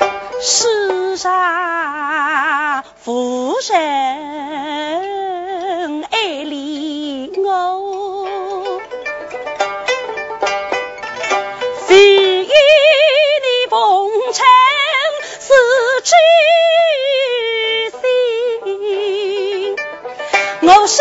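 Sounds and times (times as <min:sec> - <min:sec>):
woman singing with vibrato: 0:00.0 - 0:08.9, 0:11.8 - 0:21.0
plucked pipa: 0:00.0 - 0:21.0.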